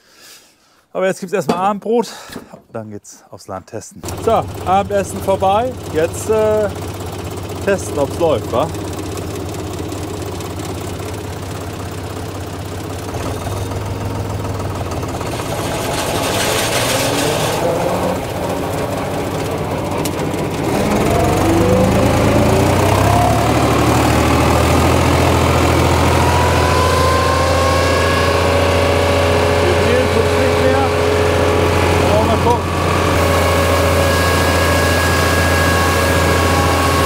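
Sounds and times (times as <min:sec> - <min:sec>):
mower rising whine: 0:04.0 - 0:37.0
tractor diesel engine running: 0:04.0 - 0:37.0.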